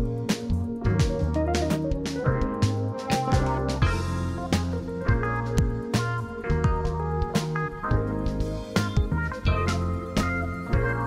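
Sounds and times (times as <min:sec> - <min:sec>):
drum hits: 0:00.0 - 0:11.0
keyboard and guitar chords: 0:00.0 - 0:11.0.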